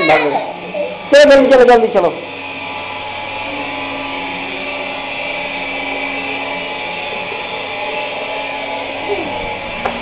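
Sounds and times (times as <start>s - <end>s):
water pump motor humming: 0.0s - 10.0s.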